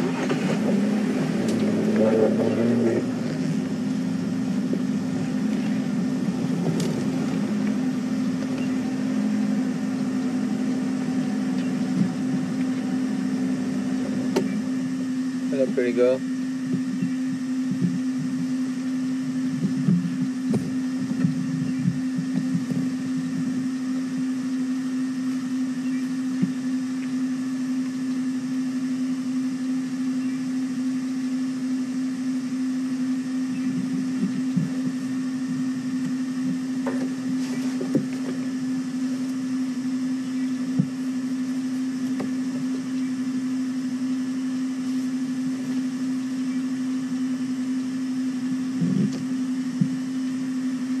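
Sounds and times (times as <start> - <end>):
steady mechanical hum: 0.0 - 51.0.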